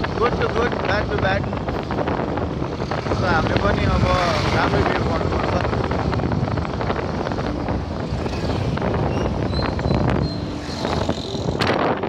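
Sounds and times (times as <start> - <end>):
motorcycle road and engine noise: 0.0 - 12.0
wind buffeting microphone: 0.0 - 12.0.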